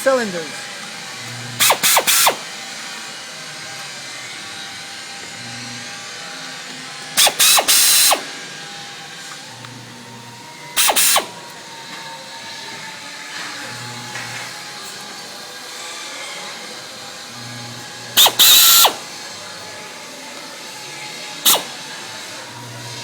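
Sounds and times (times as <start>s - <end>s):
cordless drill whirring: 0.0s - 23.0s.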